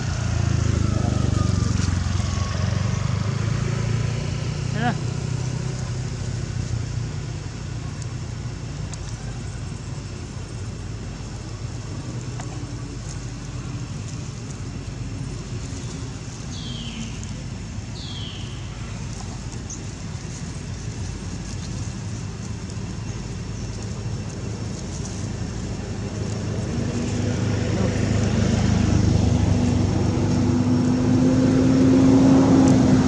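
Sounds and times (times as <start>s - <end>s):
low hum of engine traffic: 0.0s - 33.0s.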